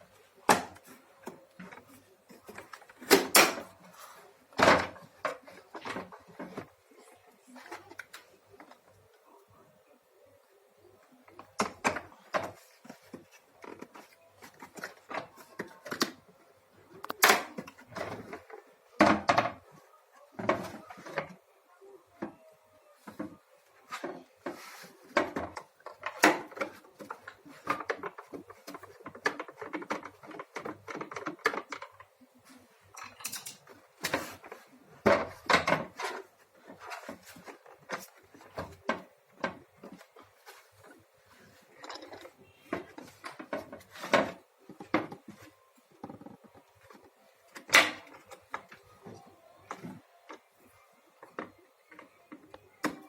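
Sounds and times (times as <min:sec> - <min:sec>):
plastic parts clicking and scraping: 0:00.0 - 0:09.2, 0:11.0 - 0:21.5, 0:23.0 - 0:53.0.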